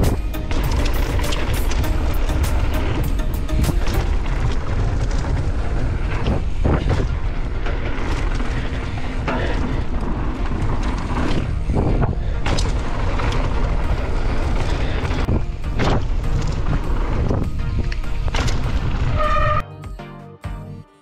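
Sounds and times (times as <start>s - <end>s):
wind on microphone: 0.0s - 19.2s
bike clattering: 0.0s - 19.6s
tyres rumbling: 0.0s - 19.6s.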